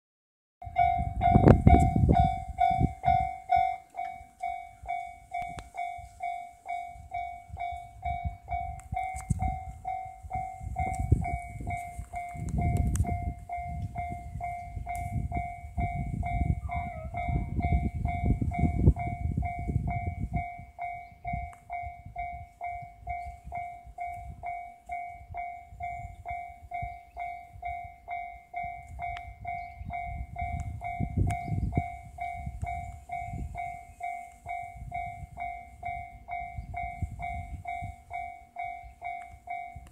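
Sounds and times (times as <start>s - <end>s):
level crossing warning bell: 0.6s - 39.9s.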